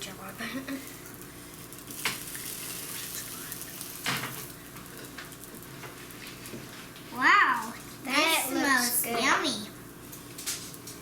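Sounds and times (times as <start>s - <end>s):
eggplant frying sizzle: 0.0s - 11.0s.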